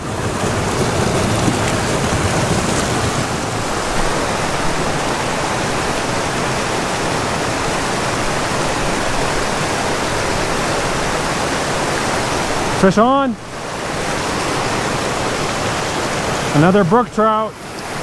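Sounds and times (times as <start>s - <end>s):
mountain creek rushing: 0.0s - 18.0s.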